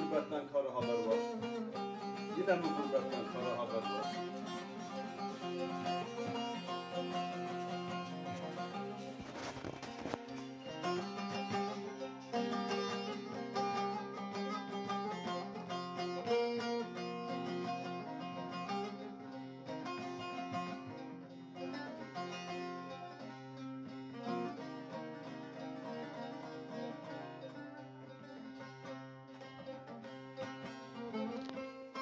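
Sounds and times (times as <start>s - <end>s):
plucked lute melody: 0.0s - 32.0s.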